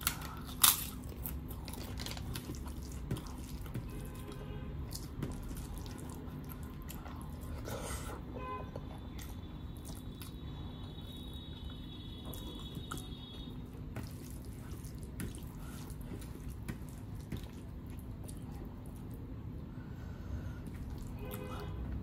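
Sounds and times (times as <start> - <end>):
hand squishing rice and dal: 0.0 - 7.7, 9.0 - 19.4.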